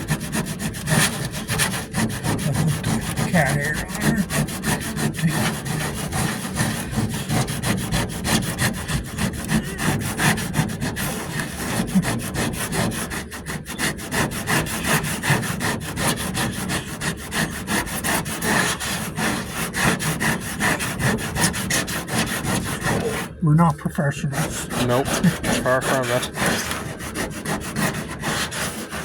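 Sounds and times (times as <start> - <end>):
sandpaper rasping on filler: 0.0 - 23.4, 24.3 - 29.0.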